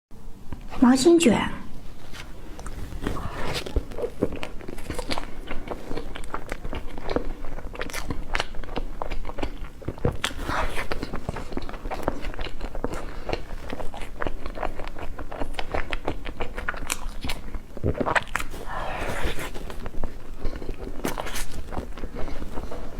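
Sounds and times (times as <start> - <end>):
biting and chewing cake: 1.7 - 22.9.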